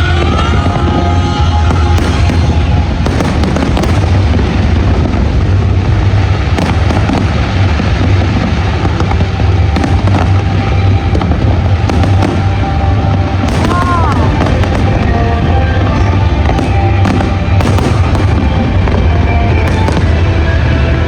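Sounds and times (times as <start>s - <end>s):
continuous low rumble: 0.0s - 21.0s
faint show music: 0.0s - 21.0s
fireworks bangs and crackling: 0.0s - 21.0s.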